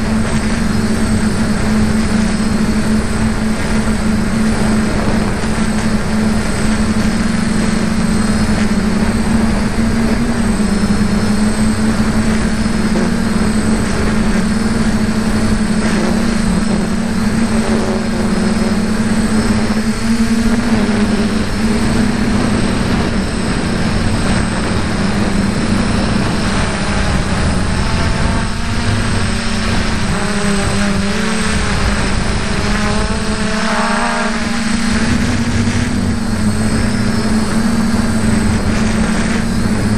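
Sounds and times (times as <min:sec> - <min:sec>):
quadcopter propellers buzzing: 0:00.0 - 0:39.9.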